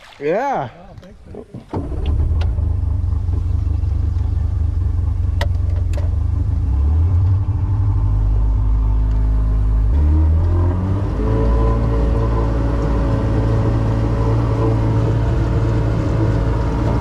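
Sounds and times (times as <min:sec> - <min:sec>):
outboard motor running: 0:01.0 - 0:06.6, 0:07.4 - 0:17.0.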